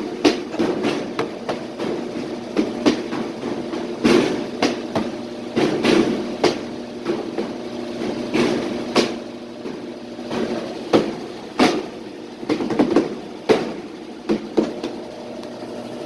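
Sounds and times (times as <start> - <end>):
sharp knocks and clatters: 0.0 - 15.0
washing machine spinning: 0.0 - 16.0.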